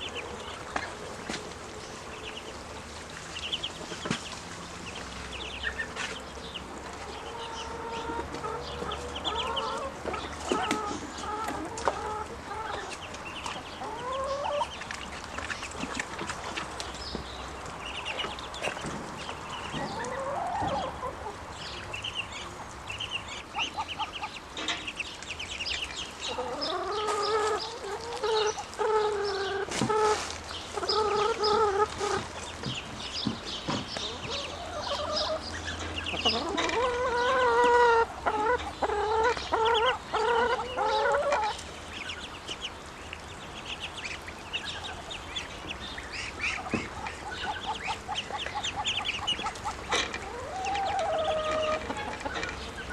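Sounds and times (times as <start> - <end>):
ducklings peeping: 0.0 - 52.9.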